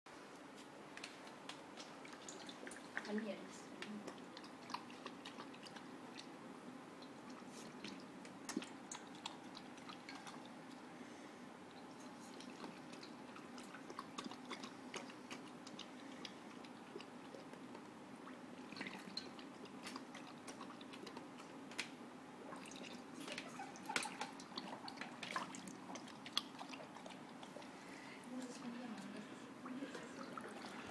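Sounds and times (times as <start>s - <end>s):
dog lapping water: 1.6s - 30.9s.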